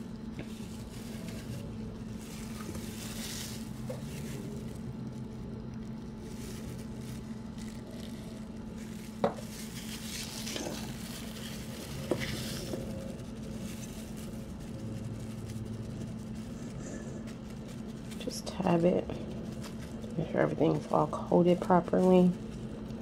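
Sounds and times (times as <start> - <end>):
gloved hands rustling and brushing: 0.0 - 23.0
steady low hum: 0.0 - 23.0.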